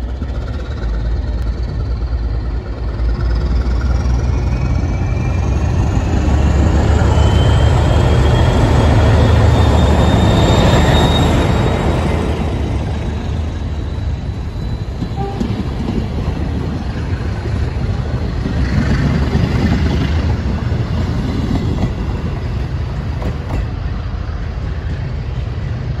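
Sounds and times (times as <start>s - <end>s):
train coaches rolling on rails: 0.0s - 26.0s.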